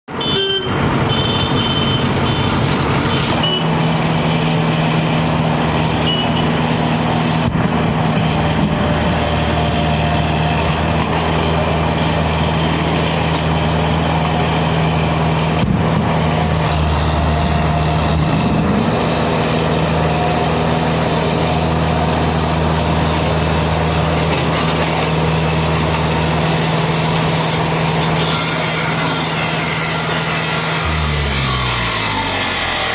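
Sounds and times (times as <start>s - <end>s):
heavy diesel engine running: 0.1s - 32.9s.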